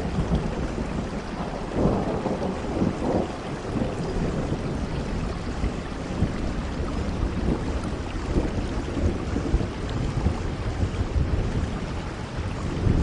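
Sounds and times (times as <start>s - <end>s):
steady rainfall: 0.0s - 13.0s.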